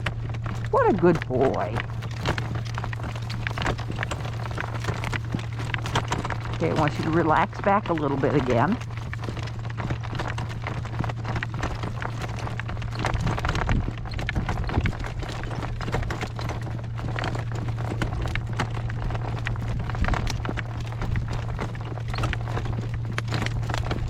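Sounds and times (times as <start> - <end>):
constant low hum: 0.0 - 24.0
horse hooves clip-clopping on road: 0.0 - 24.0.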